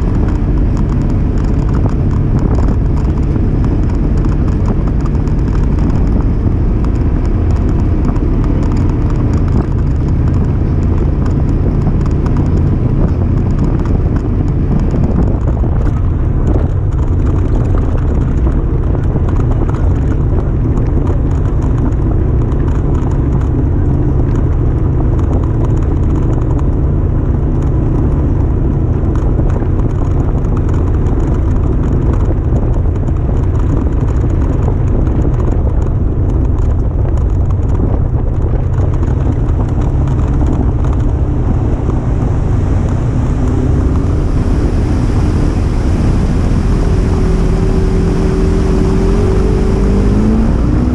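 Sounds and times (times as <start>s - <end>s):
off-road vehicle engine droning: 0.0s - 50.9s.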